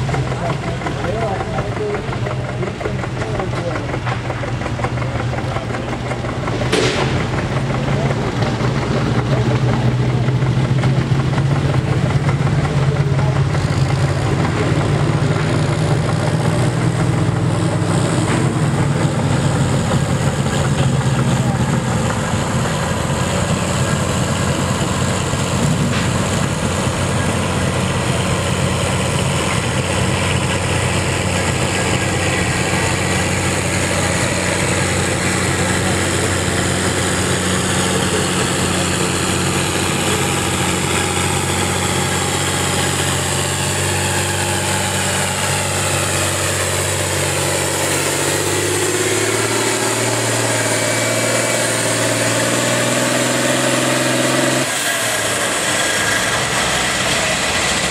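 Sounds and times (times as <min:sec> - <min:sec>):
diesel tractor engine under load: 0:00.0 - 0:57.9
diesel tractor running close by: 0:00.0 - 0:57.9.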